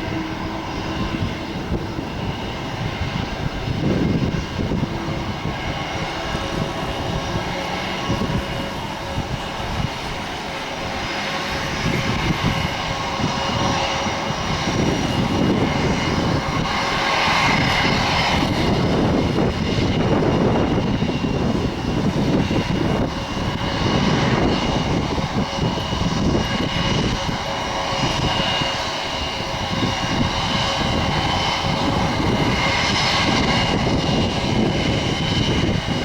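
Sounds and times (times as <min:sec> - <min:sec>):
jet engine whine: 0:00.0 - 0:36.0.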